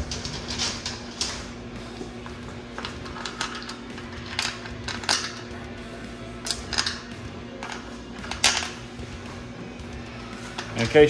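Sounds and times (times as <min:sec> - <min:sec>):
shop background hum: 0:00.0 - 0:11.0.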